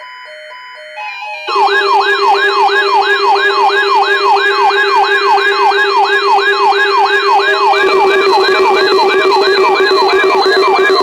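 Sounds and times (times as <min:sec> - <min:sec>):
electronic alarm siren sweeping: 0:00.0 - 0:11.0.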